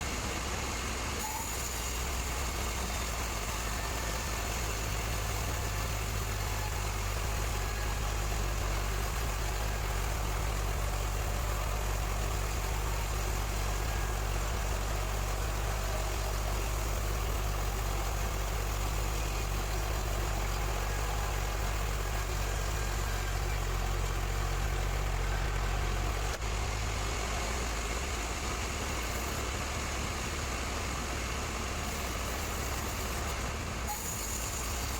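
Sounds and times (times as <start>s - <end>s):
low engine hum: 0.0s - 34.9s.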